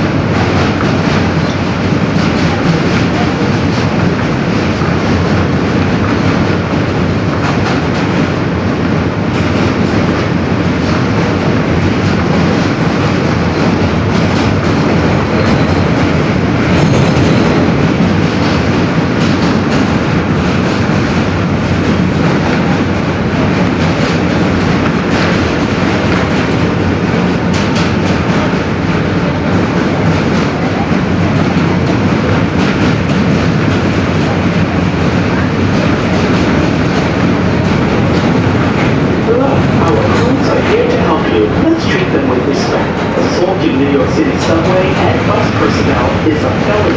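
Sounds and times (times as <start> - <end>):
rumble of wheels on rails: 0.0 - 46.9.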